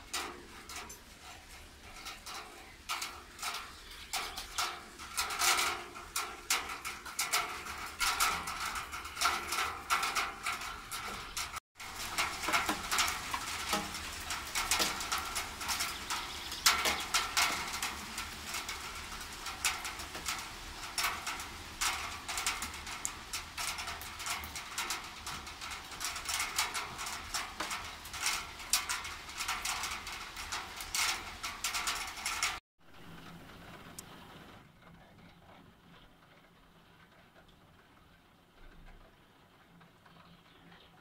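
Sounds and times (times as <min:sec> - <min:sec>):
light rain falling: 0:00.0 - 0:41.0.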